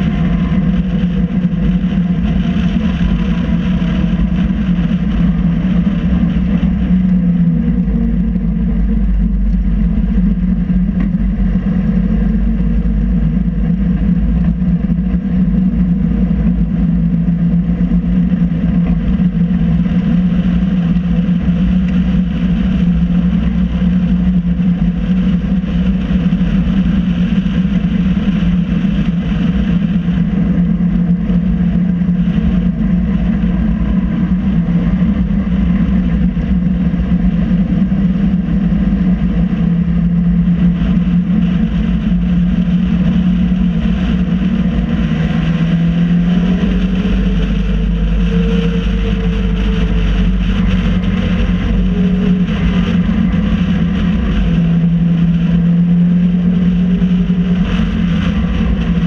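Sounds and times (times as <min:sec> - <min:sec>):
race car engine running: 0:00.0 - 0:59.0
rush of noise: 0:00.0 - 0:59.0.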